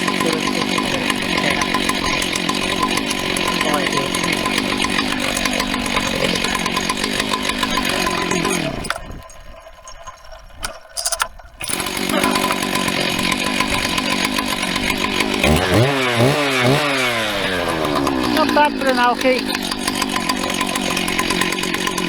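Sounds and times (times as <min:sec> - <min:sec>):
chainsaw running and revving: 0:00.0 - 0:09.4, 0:11.6 - 0:22.0.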